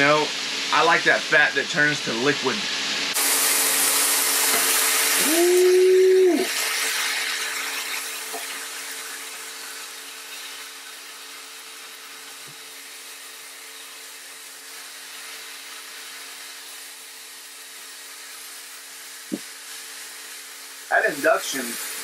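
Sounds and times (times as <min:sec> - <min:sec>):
meat sizzling in a pan: 0:00.0 - 0:22.0.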